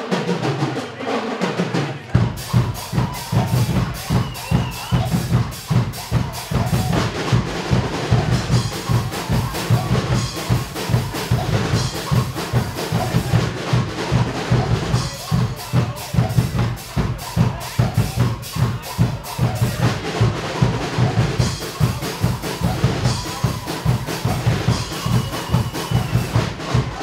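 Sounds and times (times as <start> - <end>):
bass drums and snares playing: 2.2 - 27.0.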